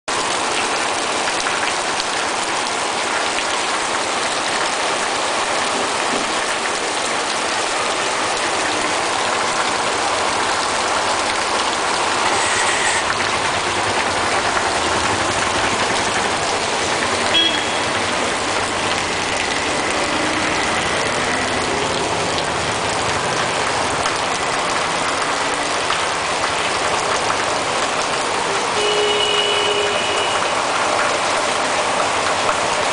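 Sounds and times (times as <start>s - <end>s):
heavy rain pouring: 0.1s - 32.9s.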